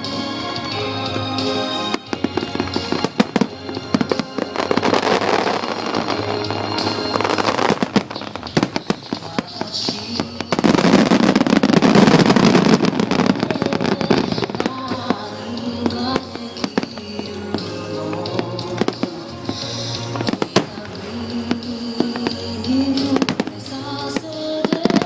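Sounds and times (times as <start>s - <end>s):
fireworks bursting and crackling: 0.0s - 25.0s
music: 0.0s - 25.0s.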